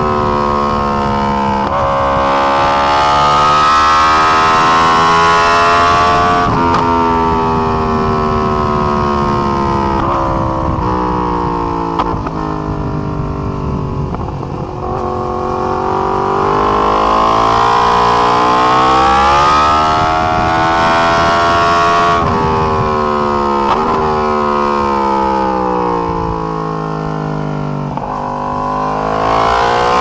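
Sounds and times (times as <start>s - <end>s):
motorcycle engine revving: 0.0s - 30.0s
quick gearshifts: 0.0s - 30.0s.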